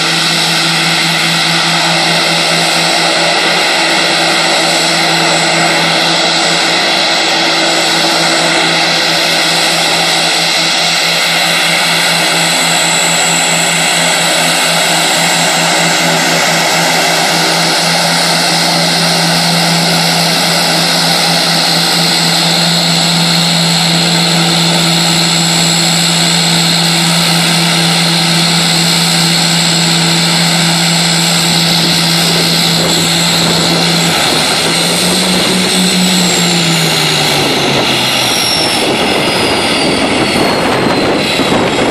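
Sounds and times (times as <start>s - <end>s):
high turbine whine: 0.0s - 41.9s
propeller drone: 0.0s - 41.9s.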